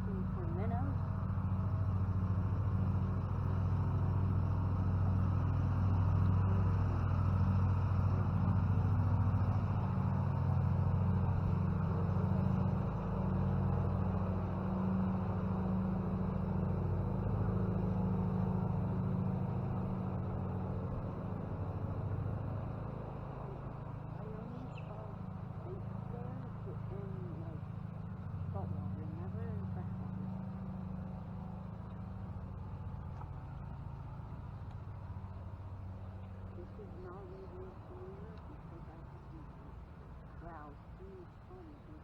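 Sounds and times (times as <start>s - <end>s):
low engine drone: 0.0s - 42.0s.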